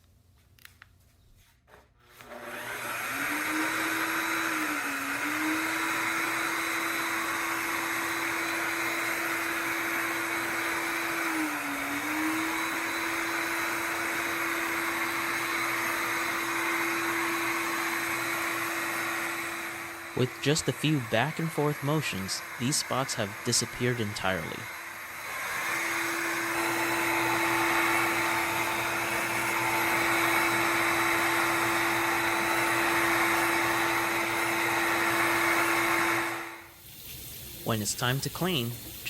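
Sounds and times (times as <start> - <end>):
wet-dry vacuum mop whining: 2.0 - 36.8.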